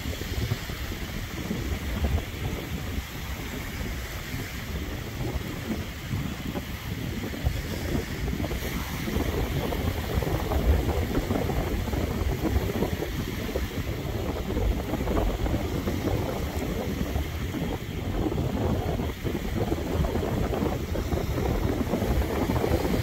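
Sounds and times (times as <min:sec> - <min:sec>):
small waves washing ashore: 0:00.0 - 0:23.0
wind buffeting microphone: 0:00.0 - 0:23.0.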